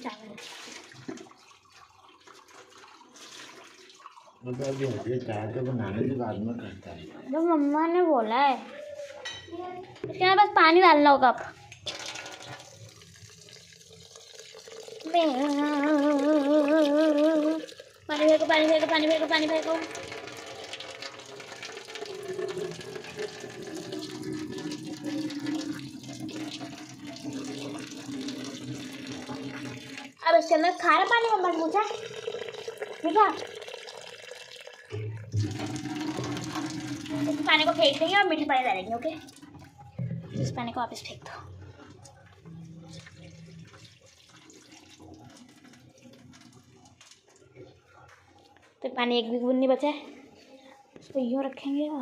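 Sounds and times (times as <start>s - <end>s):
water pouring into steel sink: 0.0s - 6.0s, 11.6s - 47.8s.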